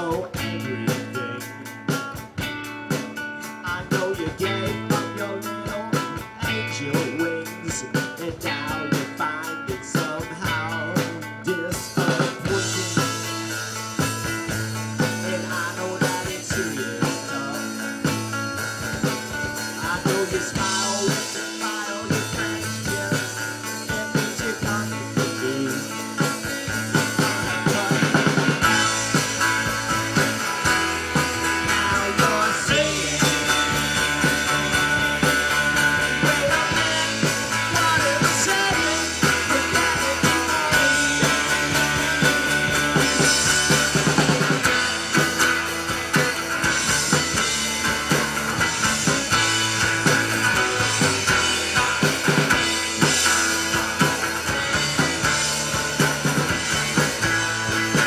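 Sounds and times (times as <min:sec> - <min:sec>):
live rock band playing: 0:00.0 - 0:58.0
sparse ticking drum beat: 0:00.0 - 0:58.0.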